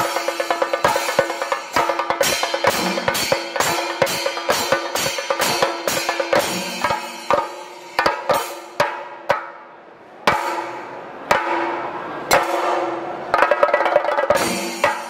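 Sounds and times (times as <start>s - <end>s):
drums struck with sticks: 0.0s - 9.6s, 10.3s - 15.0s.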